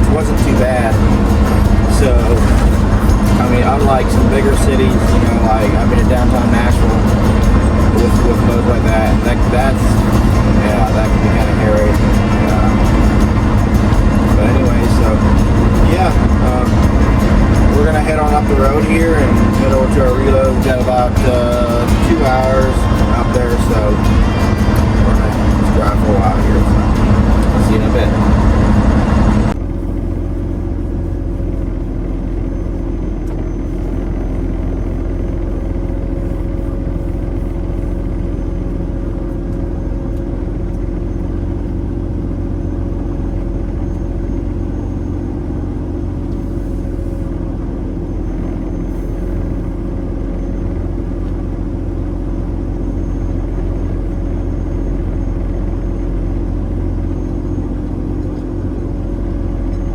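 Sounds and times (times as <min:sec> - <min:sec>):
road rumble: 0:00.0 - 0:59.9
truck engine drone: 0:00.0 - 0:59.9.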